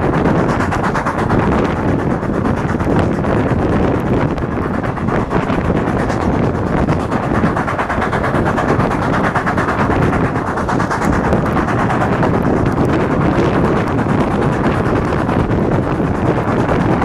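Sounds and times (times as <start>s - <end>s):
steam train running: 0.0s - 17.0s.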